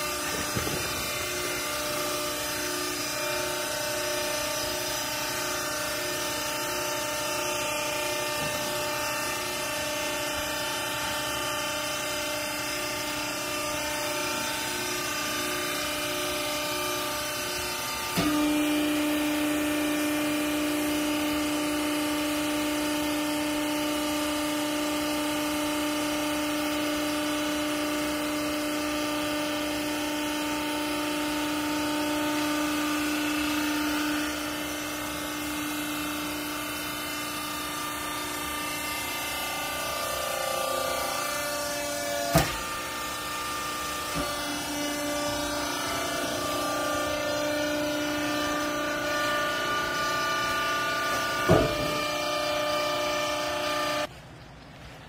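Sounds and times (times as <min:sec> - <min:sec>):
hydraulic pump motor running: 0:00.0 - 0:54.2.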